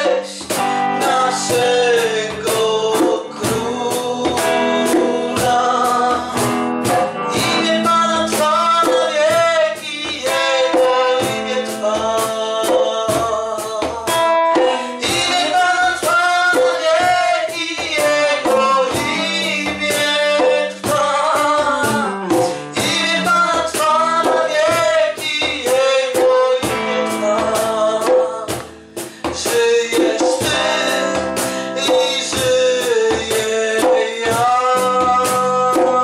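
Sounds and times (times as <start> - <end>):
person singing: 0.0 - 36.0
strummed guitar: 0.0 - 36.0.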